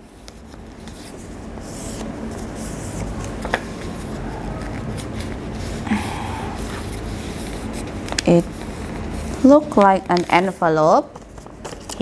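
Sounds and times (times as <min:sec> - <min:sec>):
paper rustling and creasing: 0:00.0 - 0:12.0.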